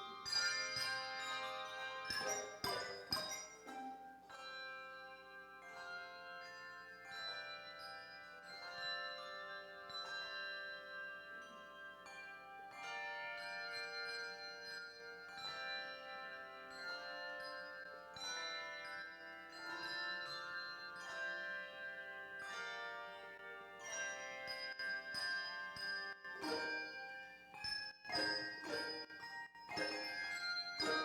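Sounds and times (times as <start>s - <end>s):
handbell choir playing: 0.0s - 31.0s.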